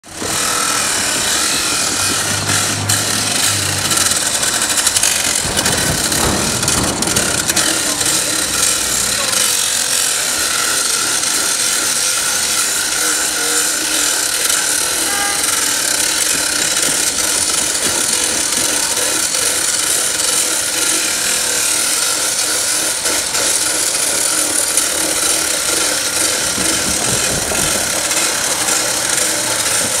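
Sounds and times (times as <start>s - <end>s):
rail saw grinding steel: 0.0s - 30.0s.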